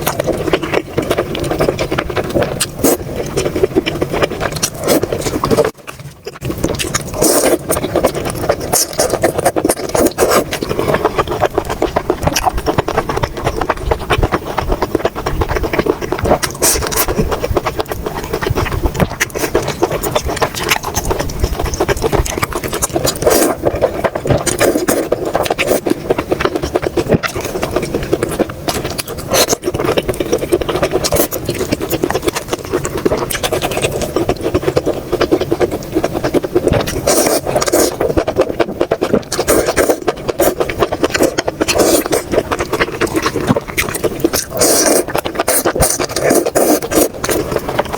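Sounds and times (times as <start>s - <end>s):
small crackles and clicks: 0.0s - 47.9s
wet chewing and mouth noises: 0.0s - 47.9s.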